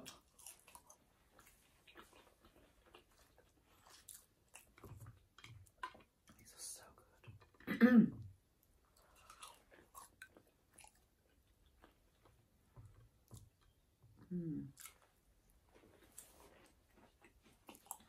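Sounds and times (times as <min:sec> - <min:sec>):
chewing food: 0:00.0 - 0:07.6, 0:08.6 - 0:18.0.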